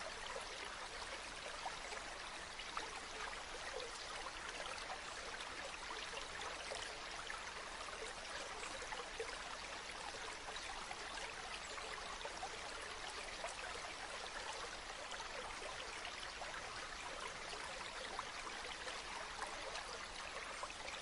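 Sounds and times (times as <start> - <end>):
stream trickling: 0.0 - 21.0.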